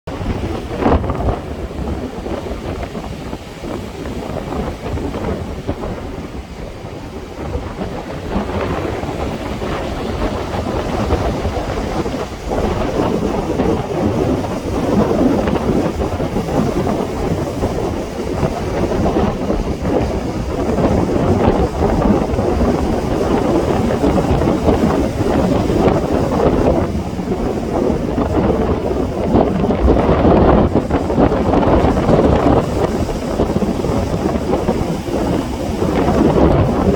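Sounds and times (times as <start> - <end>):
wind buffeting microphone: 0.0 - 36.9
sea waves washing ashore: 0.1 - 36.9.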